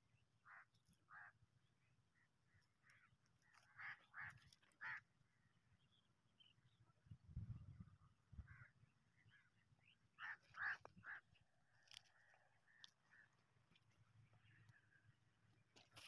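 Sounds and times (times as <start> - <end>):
faint short bird calls: 0.4 - 1.4, 2.1 - 6.9, 8.3 - 16.0.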